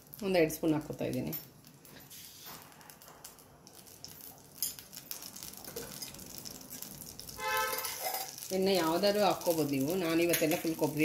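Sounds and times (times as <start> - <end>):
oil crackling in a pan: 0.0 - 11.0.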